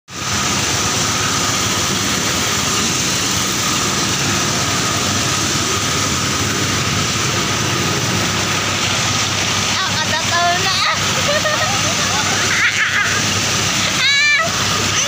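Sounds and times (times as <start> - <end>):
milling machine running: 0.1 - 15.0.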